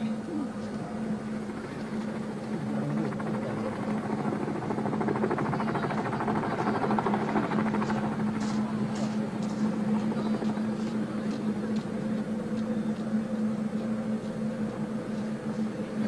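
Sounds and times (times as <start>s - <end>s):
helicopter rotors beating: 0.0s - 16.0s.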